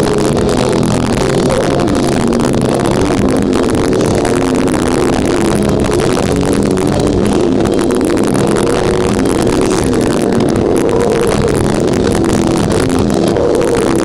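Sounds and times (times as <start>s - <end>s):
distorted guitars: 0.0s - 14.0s
rapid drumming: 0.0s - 14.0s.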